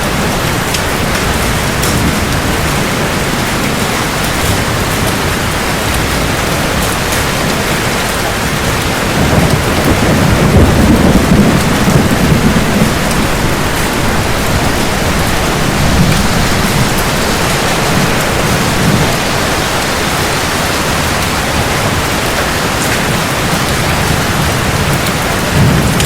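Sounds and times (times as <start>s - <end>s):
heavy rain on hard surfaces: 0.0s - 26.0s
thunder rumbling: 0.0s - 26.0s.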